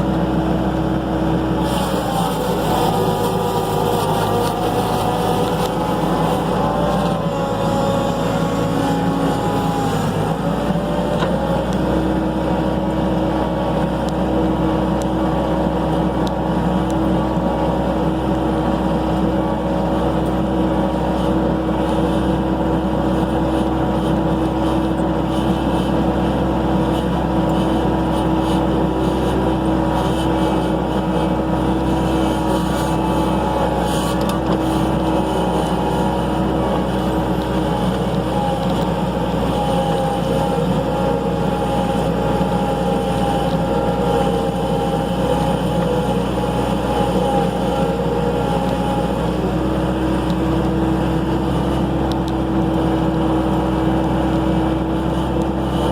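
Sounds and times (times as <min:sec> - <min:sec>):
skid steer engine running: 0:00.0 - 0:55.9.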